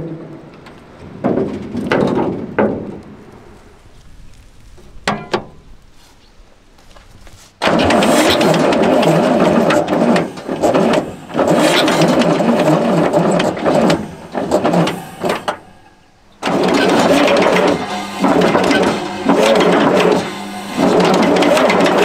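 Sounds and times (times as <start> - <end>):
diesel engine cranking: 0.0 - 5.8, 7.6 - 22.0.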